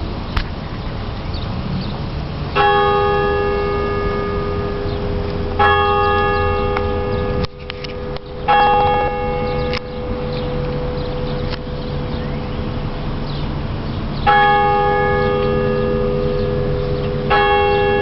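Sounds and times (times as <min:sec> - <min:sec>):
church bell ringing: 0:02.6 - 0:18.0.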